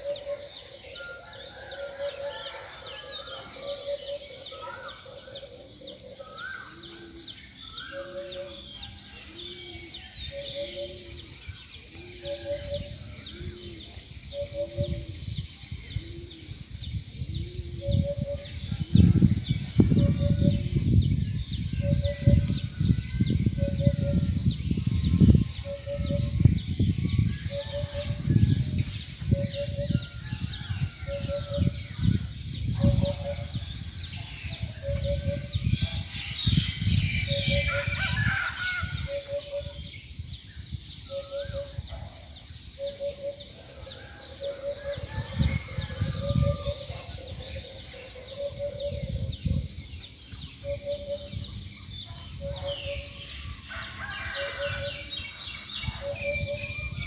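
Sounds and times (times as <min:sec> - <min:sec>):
higher bird chirping: 0:00.0 - 0:57.0.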